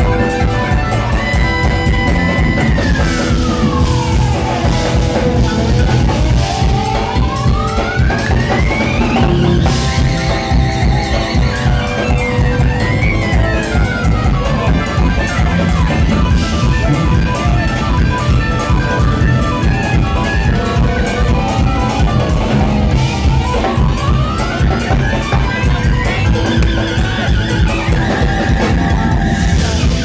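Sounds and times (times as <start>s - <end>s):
drum kit: 0.0s - 30.0s
electric bass: 0.0s - 30.0s
jazz fusion band playing live: 0.0s - 30.0s.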